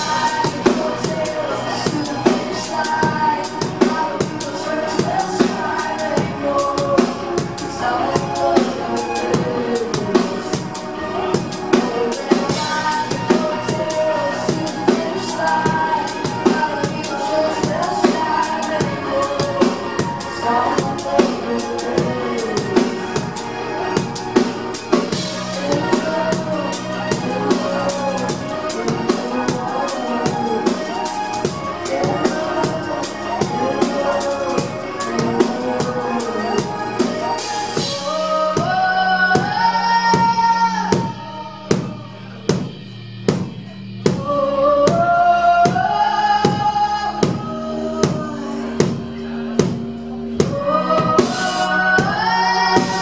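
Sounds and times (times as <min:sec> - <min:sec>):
drum kit beat: 0:00.0 - 0:53.0
keyboards: 0:00.0 - 0:53.0.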